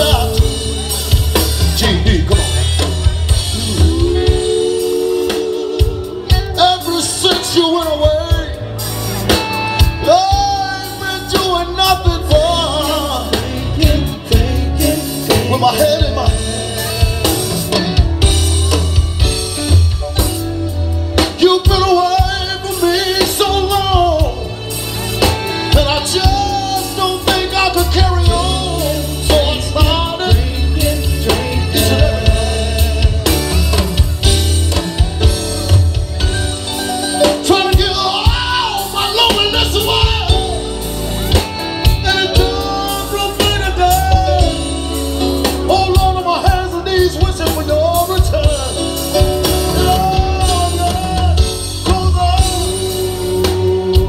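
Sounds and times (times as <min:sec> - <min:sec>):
man singing: 0:00.0 - 0:19.0, 0:21.1 - 0:34.8, 0:37.2 - 0:54.0
live band playing: 0:00.0 - 0:54.0
strong bass line: 0:00.0 - 0:54.0.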